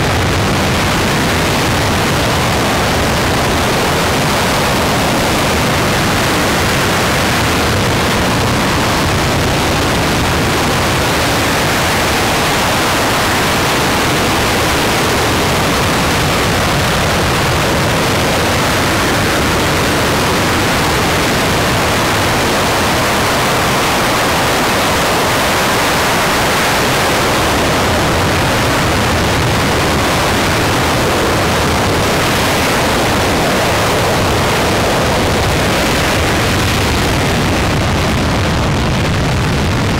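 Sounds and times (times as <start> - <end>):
rocket engine roaring: 0.0 - 39.9.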